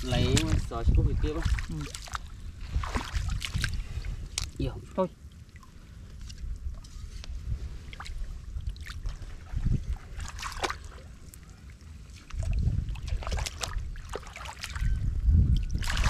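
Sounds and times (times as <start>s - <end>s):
mud and water sloshing: 0.0s - 16.0s.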